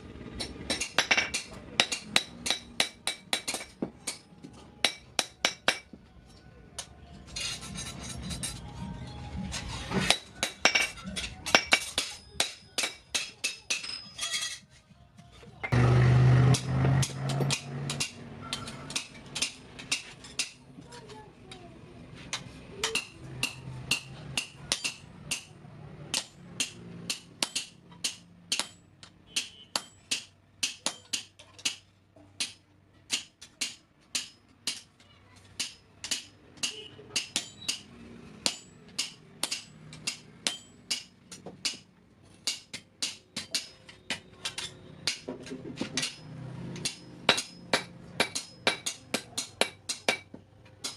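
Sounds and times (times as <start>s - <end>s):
hammer striking steel on anvil: 0.4s - 6.0s, 10.0s - 14.3s, 15.6s - 20.6s, 22.3s - 34.9s, 35.5s - 50.9s.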